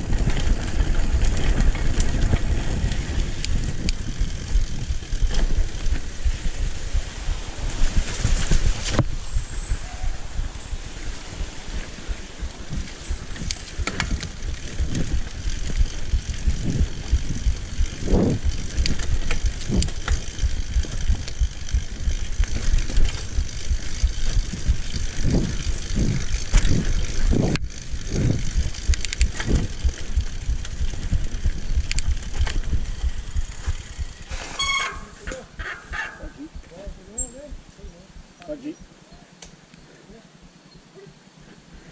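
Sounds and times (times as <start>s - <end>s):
bike knocks and rattles: 0.0s - 9.4s, 10.4s - 37.4s
bike tyres rumbling on dirt: 0.0s - 37.2s.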